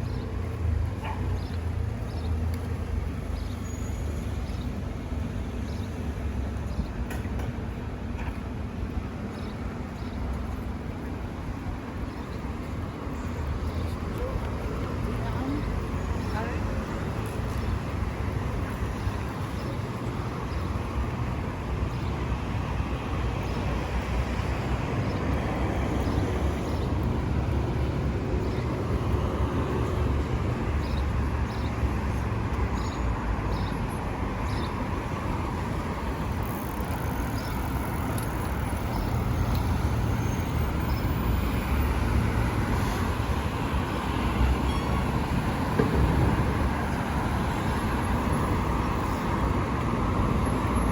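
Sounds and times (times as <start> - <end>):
passing cars rumble: 0.0 - 50.9.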